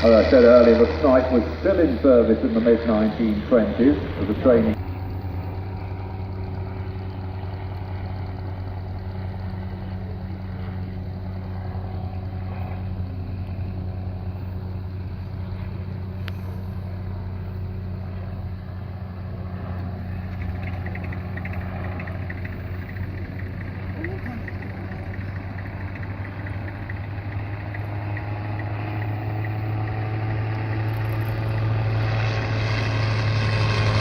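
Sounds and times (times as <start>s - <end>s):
engine droning steadily: 0.0s - 34.0s.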